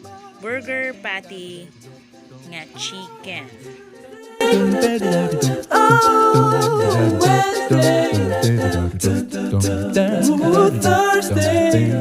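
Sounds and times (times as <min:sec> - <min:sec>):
a cappella layered singing: 0:00.0 - 0:00.8, 0:03.1 - 0:12.0.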